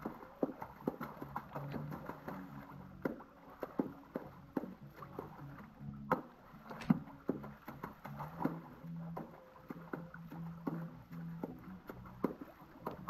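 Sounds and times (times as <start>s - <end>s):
hands splashing pool water: 0.0s - 13.0s.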